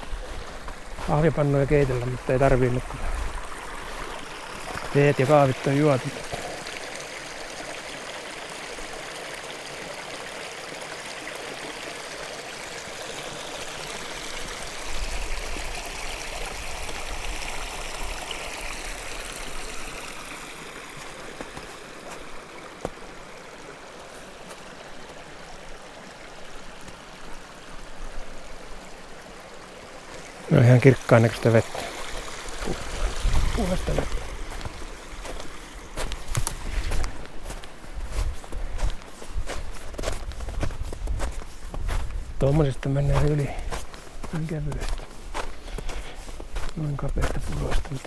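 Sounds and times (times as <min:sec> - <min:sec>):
brook running: 0:00.0 - 0:48.0.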